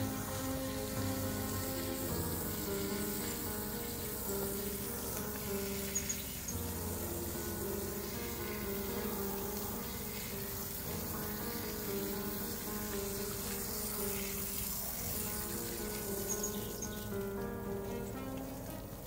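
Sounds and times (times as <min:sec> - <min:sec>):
slow melody of held notes: 0:00.0 - 0:19.0
water spraying from garden hose: 0:00.0 - 0:19.0.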